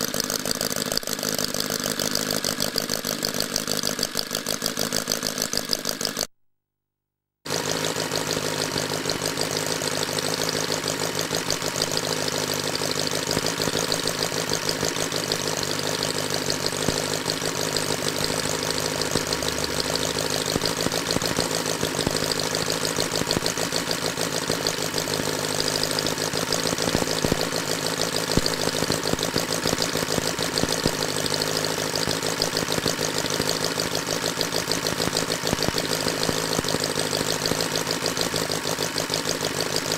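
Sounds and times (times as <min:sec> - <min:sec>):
model engine running: 0:00.0 - 0:06.3, 0:07.5 - 0:39.9.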